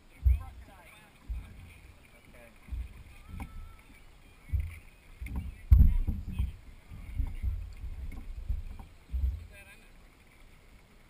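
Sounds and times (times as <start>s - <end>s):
paddle strokes thudding: 0.0s - 11.0s
water slapping: 0.0s - 11.0s.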